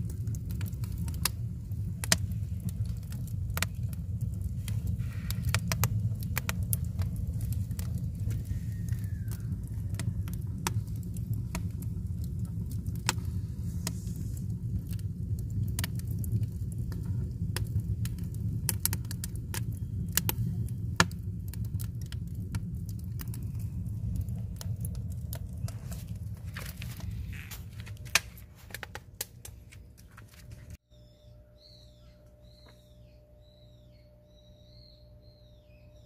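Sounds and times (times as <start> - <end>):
firewood crackling and popping: 0.0 - 30.8
low fire rumble: 0.0 - 30.8.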